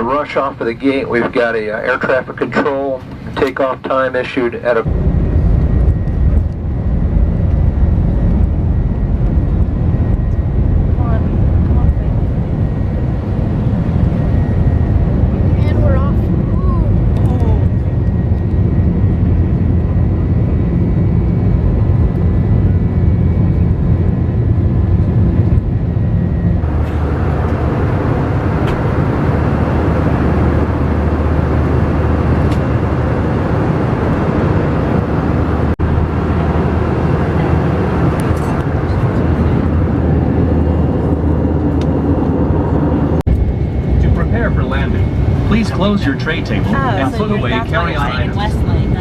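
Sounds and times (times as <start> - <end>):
jet engine rumble and rushing air: 0.0 - 49.0.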